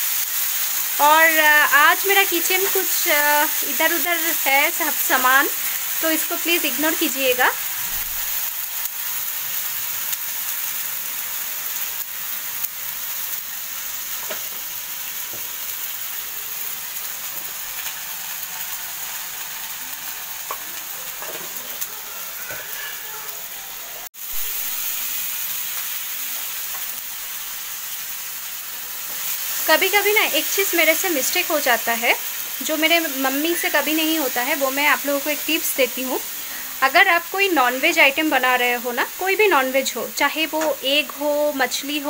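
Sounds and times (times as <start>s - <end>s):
masala sizzling in oil: 0.0s - 42.0s.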